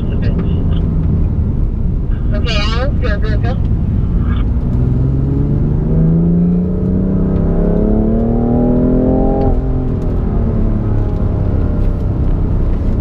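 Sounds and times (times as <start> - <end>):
car engine revving: 0.0 - 13.0
road and wind rumble: 0.0 - 13.0.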